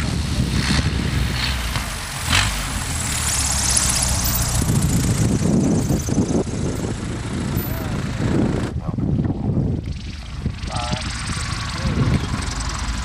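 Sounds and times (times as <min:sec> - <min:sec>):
small plane engine and propeller: 0:00.0 - 0:13.0.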